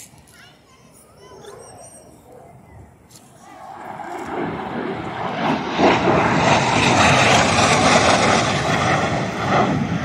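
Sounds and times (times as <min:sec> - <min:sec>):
fighter jet flying low: 0:01.0 - 0:10.0.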